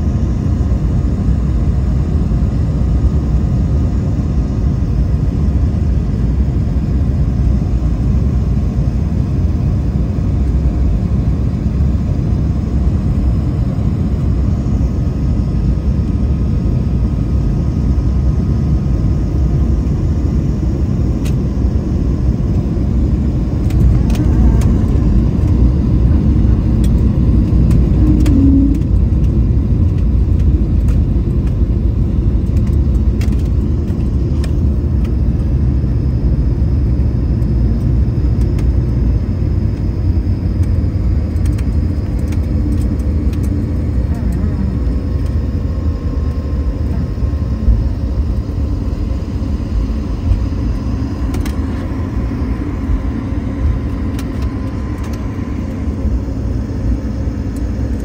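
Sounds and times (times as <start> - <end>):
low rumble of engines and wheels: 0.0 - 58.0.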